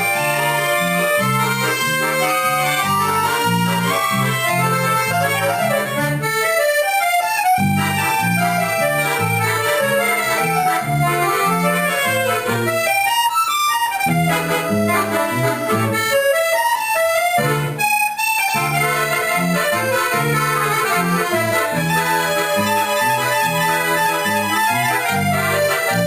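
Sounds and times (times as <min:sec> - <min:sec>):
bass guitar line: 0:00.0 - 0:06.4, 0:07.6 - 0:13.0, 0:14.0 - 0:16.4, 0:17.3 - 0:17.8, 0:18.5 - 0:26.0
accordions playing melody: 0:00.0 - 0:26.0.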